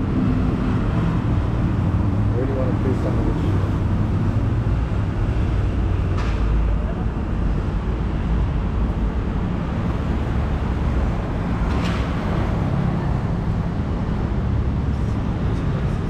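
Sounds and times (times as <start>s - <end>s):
rumble of passing vehicles: 0.0s - 16.0s.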